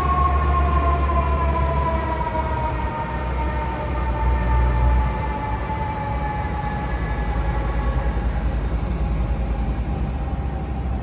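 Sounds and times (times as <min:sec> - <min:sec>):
fire truck siren winding down: 0:00.0 - 0:11.0
low engine rumble: 0:00.0 - 0:11.0.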